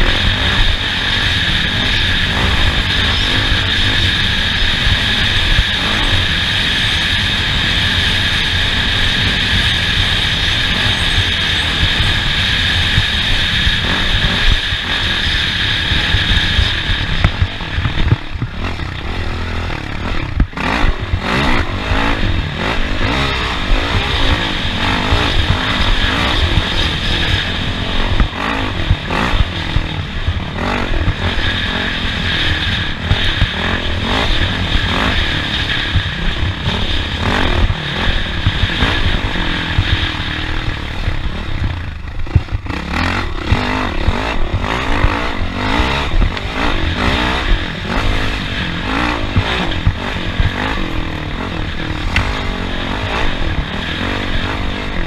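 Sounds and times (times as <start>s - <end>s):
high whine: 0.0s - 55.0s
off-road vehicle engine: 0.0s - 55.0s.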